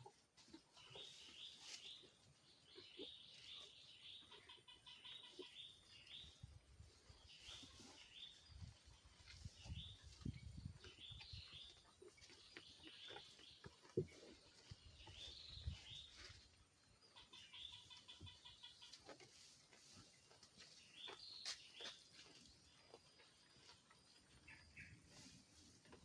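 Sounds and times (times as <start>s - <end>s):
small birds chirping: 0.5s - 26.0s.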